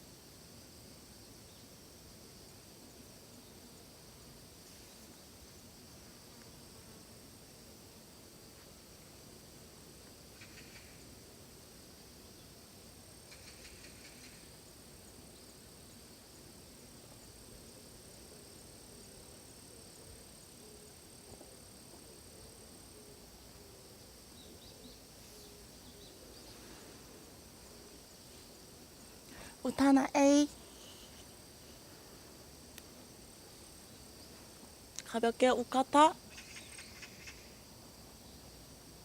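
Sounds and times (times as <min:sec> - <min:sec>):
brief faint insect calls: 0:00.0 - 0:39.0
high-pitched insect chorus: 0:00.0 - 0:39.0.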